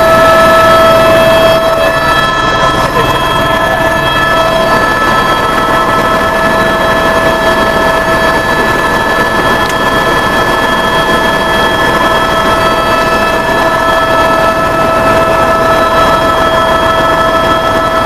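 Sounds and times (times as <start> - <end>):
aircraft engines at full power: 0.0 - 18.0.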